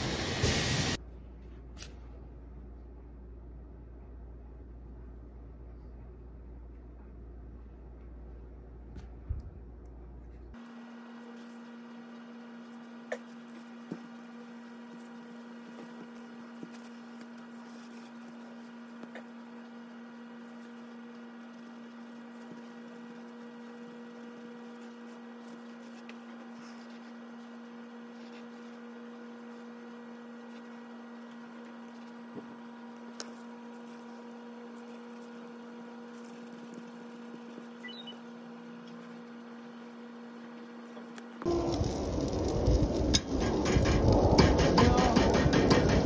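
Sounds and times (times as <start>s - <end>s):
steady electrical hum: 0.0s - 46.0s.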